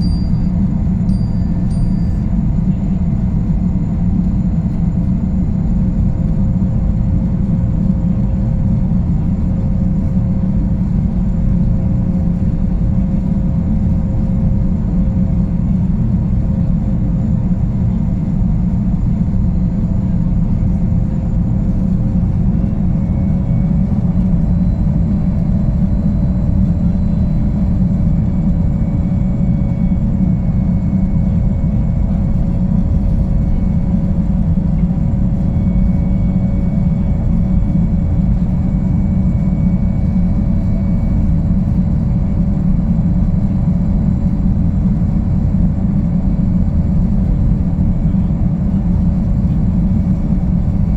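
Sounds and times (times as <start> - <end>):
gas turbines low rumble: 0.0 - 50.9
turbine whine: 0.0 - 50.9.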